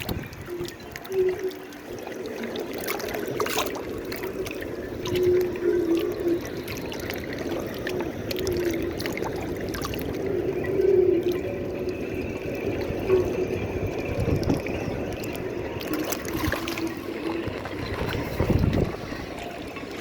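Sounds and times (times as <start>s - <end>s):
wind gusting and howling: 0.0s - 20.0s.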